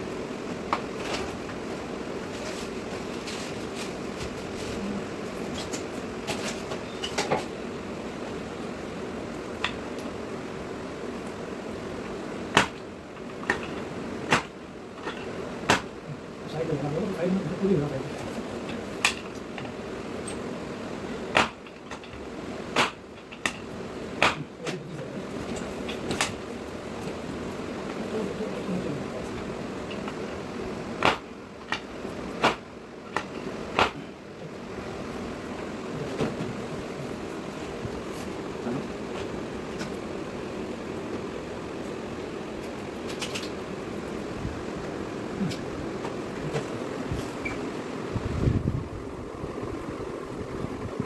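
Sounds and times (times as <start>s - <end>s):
fan-like room noise: 0.0s - 51.0s
steady background hum: 0.0s - 51.0s.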